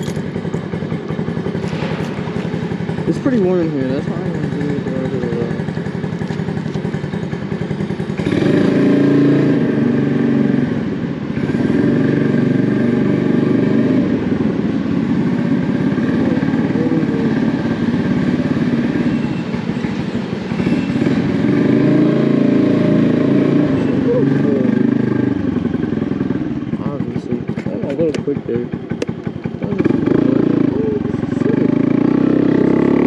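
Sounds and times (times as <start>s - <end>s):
scooter engine running: 0.0s - 33.0s.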